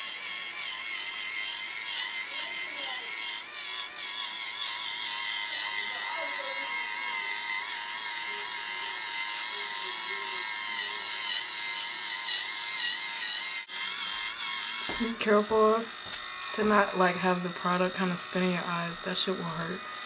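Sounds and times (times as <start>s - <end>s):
facial cleansing brush whirring: 0.0s - 20.0s.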